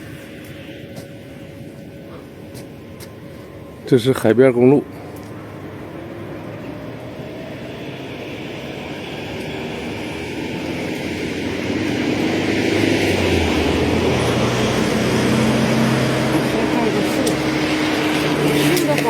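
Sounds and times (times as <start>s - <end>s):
low engine hum: 0.0s - 19.0s
road vehicle noise: 0.0s - 19.0s.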